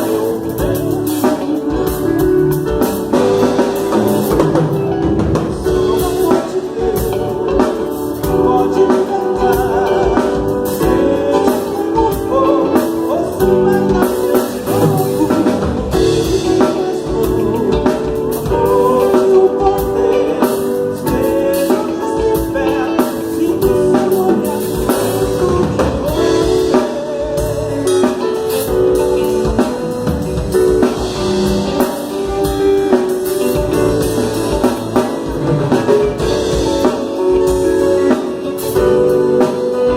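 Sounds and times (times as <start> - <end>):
band playing: 0.0 - 39.9
drum kit: 0.0 - 39.9
person singing: 0.0 - 39.9.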